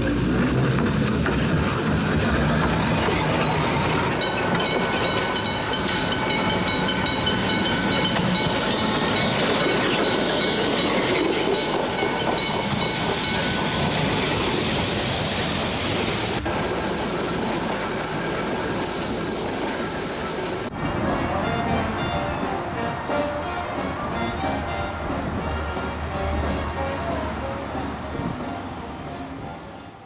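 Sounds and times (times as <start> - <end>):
tram wheels rolling on rails: 0.0 - 30.0.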